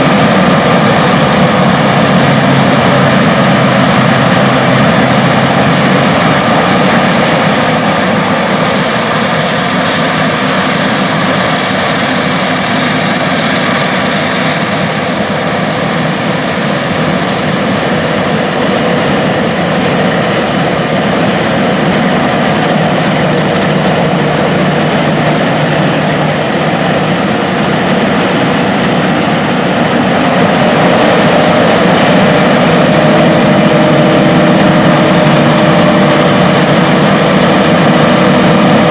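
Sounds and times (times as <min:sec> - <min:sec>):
combine engine drone: 0:00.0 - 0:38.9
threshing machinery rushing: 0:00.0 - 0:38.9.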